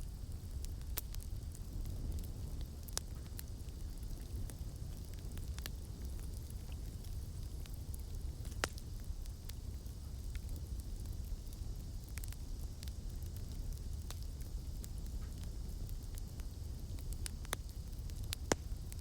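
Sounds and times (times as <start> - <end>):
burning wood crackling and popping: 0.0 - 19.0
campfire flame rumbling: 0.0 - 19.0.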